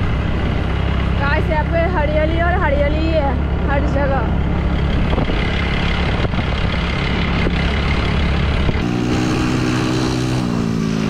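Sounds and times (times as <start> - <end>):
road and wind noise: 0.0 - 11.0
vehicle engine rumbling: 0.0 - 11.0.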